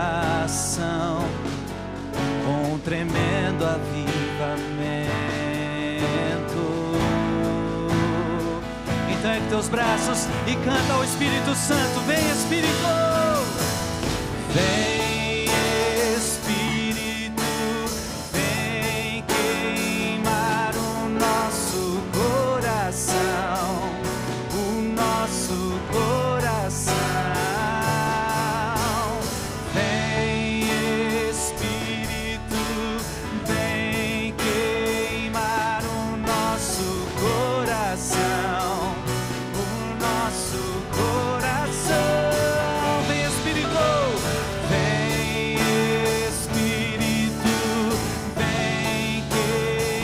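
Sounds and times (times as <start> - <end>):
person singing with vibrato: 0.0 - 50.0
worship band music: 0.0 - 50.0
steady beat: 9.2 - 50.0.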